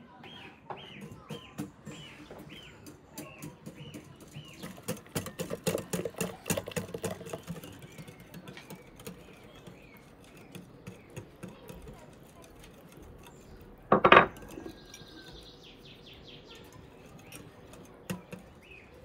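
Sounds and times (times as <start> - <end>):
wire whisk clicking on glass bowl: 1.0 - 19.0.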